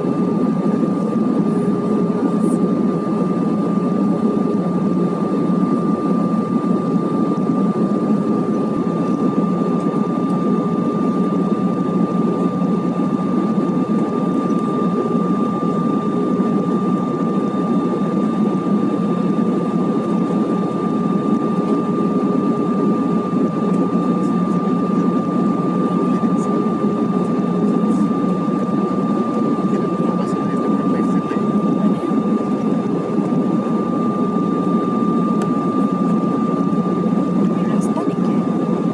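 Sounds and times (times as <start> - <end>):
engine and airflow noise: 0.0 - 38.9.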